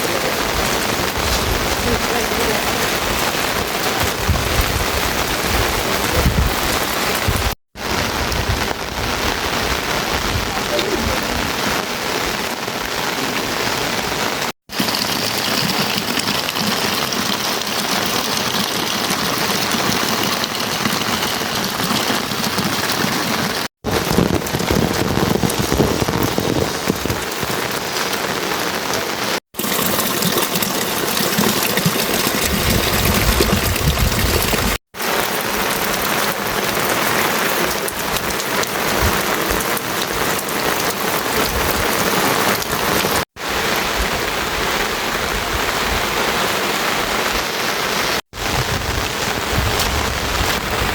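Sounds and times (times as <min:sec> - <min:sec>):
heavy rain pattering: 0:00.0 - 0:50.9.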